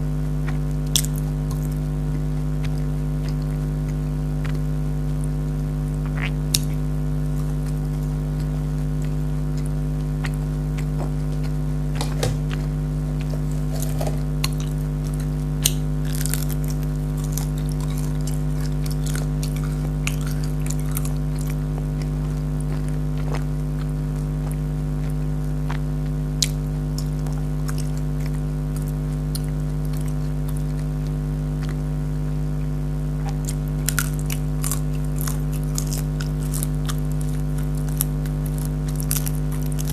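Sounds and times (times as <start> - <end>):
crunchy sweet being chewed: 0.0 - 39.9
steady machine hum: 0.0 - 39.9.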